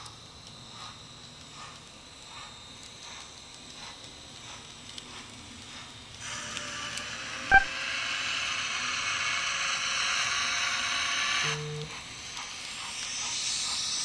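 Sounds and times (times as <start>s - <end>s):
steam hiss: 0.0s - 14.0s
steam locomotive chuffs: 0.0s - 14.0s.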